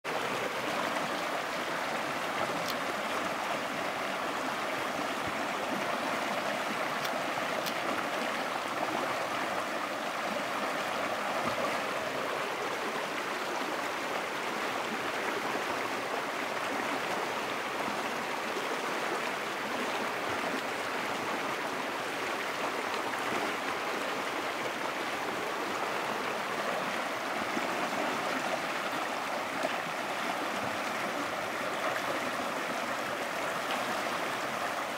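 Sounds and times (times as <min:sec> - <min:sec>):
creek running over rocks: 0:00.0 - 0:34.9.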